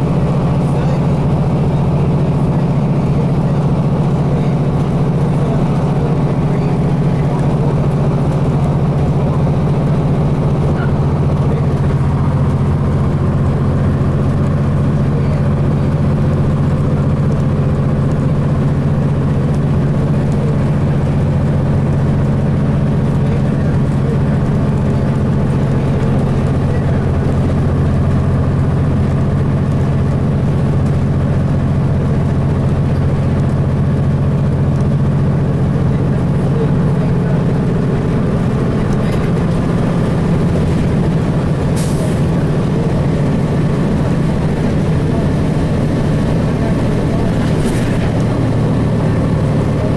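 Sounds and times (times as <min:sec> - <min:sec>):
diesel bus engine droning: 0:00.0 - 0:49.9.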